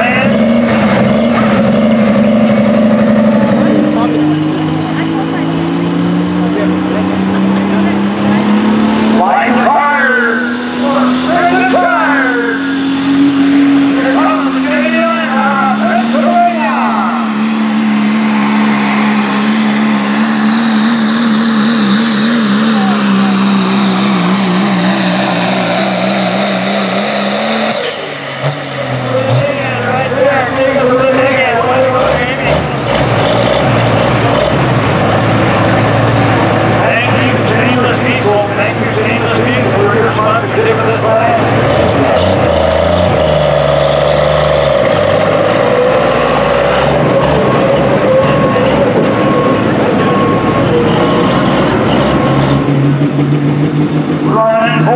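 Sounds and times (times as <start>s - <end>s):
diesel engine at full throttle: 0.0s - 54.9s.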